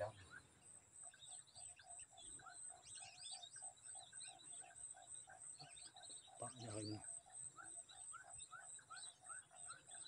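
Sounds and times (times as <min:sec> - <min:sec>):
faint whistled bird calls: 0:00.0 - 0:10.0.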